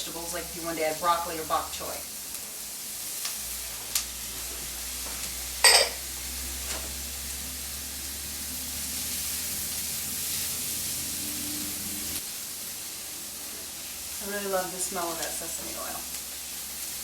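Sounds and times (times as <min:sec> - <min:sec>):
vegetables sizzling in a wok: 0:00.0 - 0:17.0.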